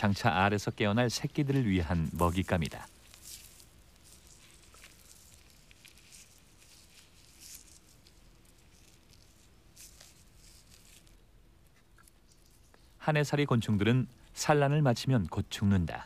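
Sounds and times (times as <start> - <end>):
faint hiss: 0.0 - 16.0
small rustles and ticks: 0.0 - 16.0.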